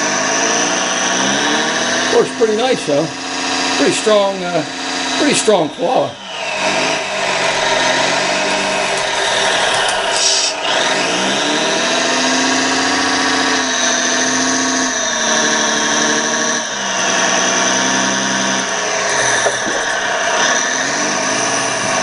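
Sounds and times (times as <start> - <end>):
hydraulic pump whine: 0.0 - 22.0
simulated diesel engine sound: 0.0 - 22.0.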